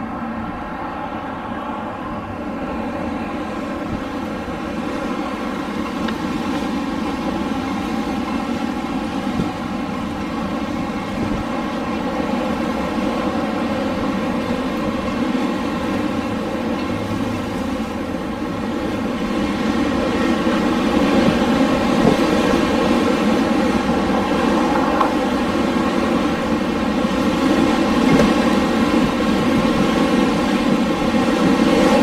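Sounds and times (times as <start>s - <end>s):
constant hum: 0.0s - 32.0s
rushing wind: 0.0s - 32.0s.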